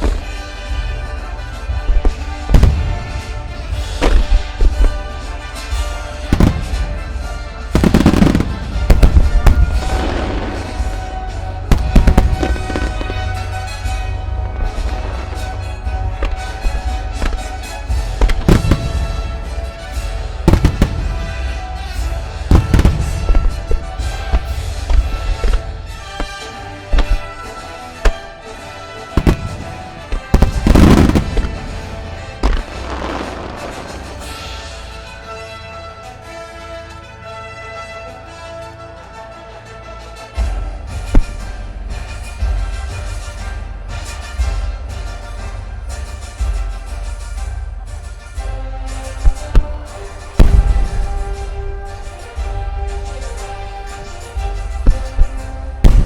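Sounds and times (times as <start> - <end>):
fireworks bursting with crackling: 0.0 - 34.9, 40.9 - 47.6, 48.4 - 56.0
music: 0.0 - 56.0.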